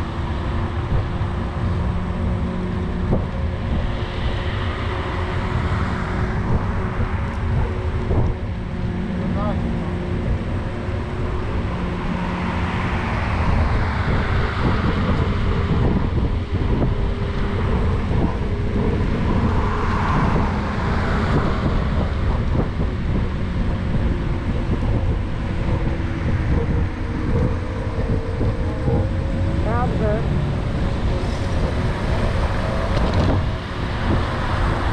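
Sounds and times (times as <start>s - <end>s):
road traffic noise: 0.0s - 34.9s
rumble of riding on paved path: 0.0s - 34.9s
wind rushing over microphone: 0.0s - 34.9s.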